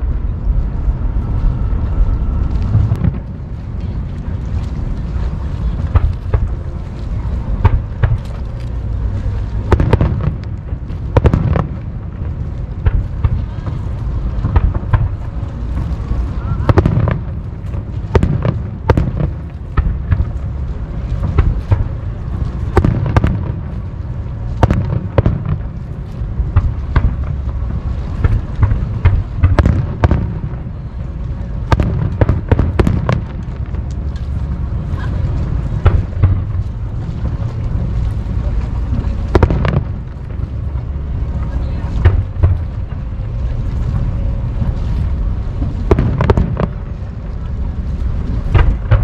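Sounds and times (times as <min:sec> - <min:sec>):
low rumble: 0:00.0 - 0:49.0
fireworks bangs: 0:02.4 - 0:49.0.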